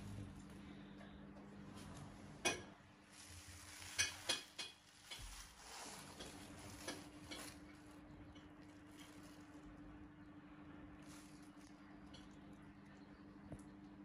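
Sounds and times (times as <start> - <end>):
faint low hum: 0.0 - 4.3, 4.9 - 14.0.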